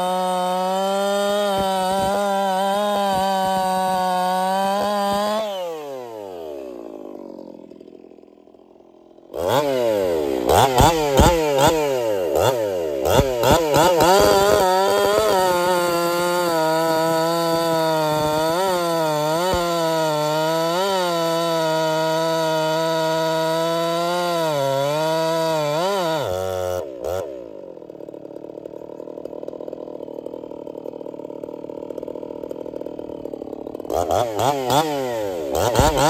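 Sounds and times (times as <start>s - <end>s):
chainsaw cutting through log: 0.0s - 36.0s
chainsaw revving: 0.0s - 36.0s.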